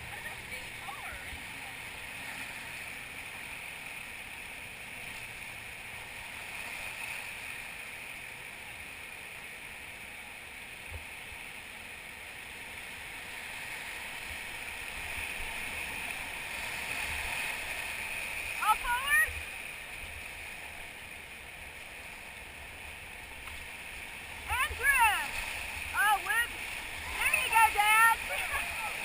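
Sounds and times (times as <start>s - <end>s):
whitewater river rushing: 0.0s - 10.8s, 11.9s - 29.0s.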